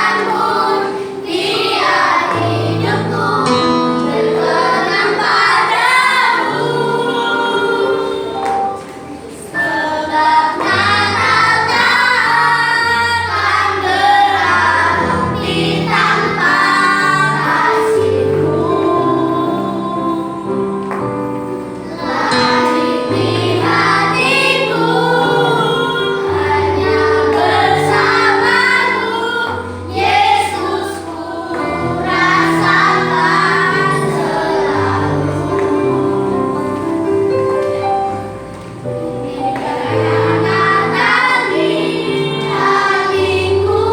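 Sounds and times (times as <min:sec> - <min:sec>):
children singing: 0:00.0 - 0:38.4, 0:39.0 - 0:43.9
instrumental accompaniment: 0:00.0 - 0:43.9.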